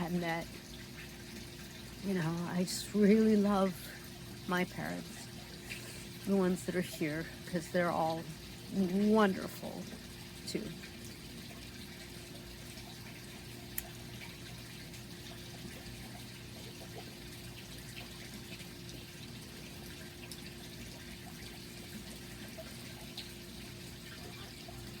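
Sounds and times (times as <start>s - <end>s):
indoor hum and hiss: 0.0s - 25.0s.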